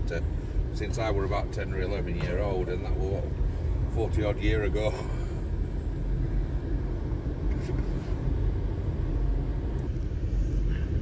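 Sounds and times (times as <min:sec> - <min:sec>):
car engine: 0:00.0 - 0:11.0
tyres rumbling on rough road: 0:00.0 - 0:11.0.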